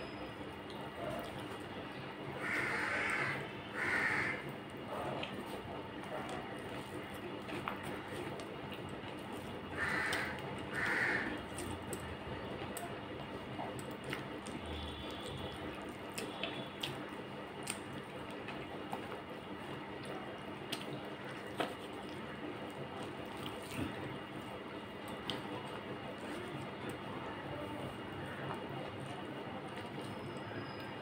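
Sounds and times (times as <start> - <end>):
chewing: 0.6 - 1.8, 4.8 - 27.1, 27.8 - 30.9
hand squishing wet rice: 4.9 - 31.0.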